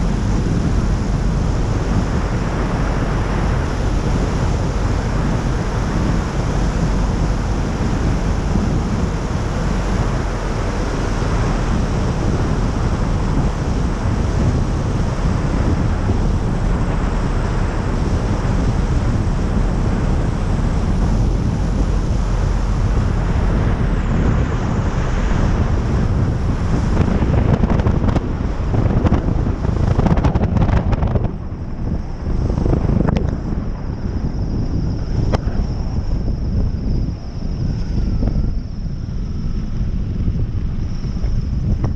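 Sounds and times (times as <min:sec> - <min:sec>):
wind rush over microphone: 0:00.0 - 0:41.9.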